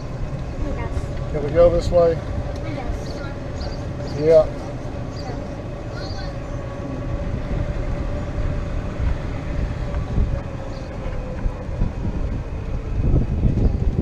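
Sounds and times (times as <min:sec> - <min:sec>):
golf cart motor: 0:00.0 - 0:13.8.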